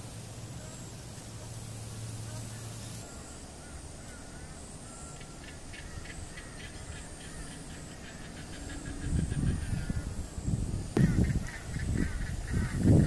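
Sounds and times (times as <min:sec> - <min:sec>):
rapid chattering bird calls: 0:00.0 - 0:10.4, 0:11.0 - 0:13.0.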